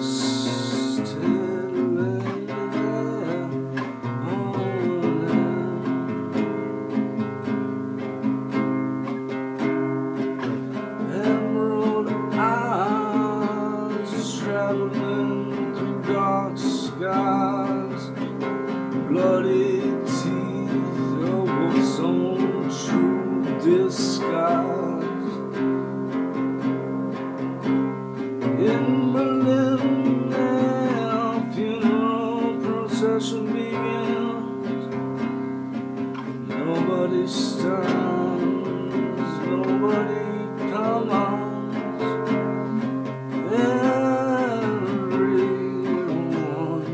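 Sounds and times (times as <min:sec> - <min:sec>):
man singing: 0:00.0 - 0:07.3, 0:09.6 - 0:26.7, 0:27.4 - 0:46.9
acoustic guitar: 0:00.0 - 0:46.9.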